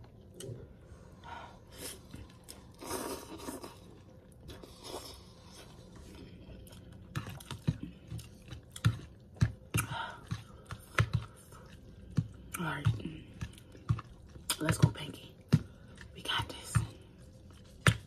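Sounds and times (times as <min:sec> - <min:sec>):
wet chewing and smacking: 0:01.8 - 0:18.0.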